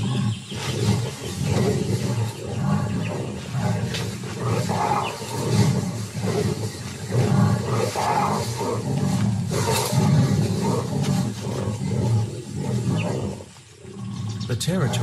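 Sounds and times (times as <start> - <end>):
jaguars growling: 0.0 - 15.0.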